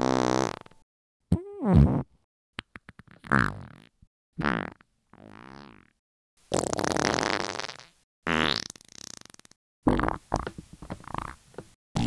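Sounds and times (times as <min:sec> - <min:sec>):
farts: 0:00.0 - 0:00.7, 0:01.3 - 0:02.1, 0:02.7 - 0:11.4.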